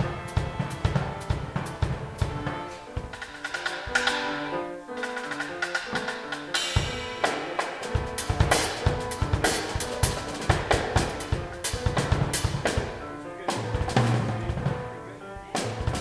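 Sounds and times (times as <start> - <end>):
drum kit beat: 0.0 - 16.0.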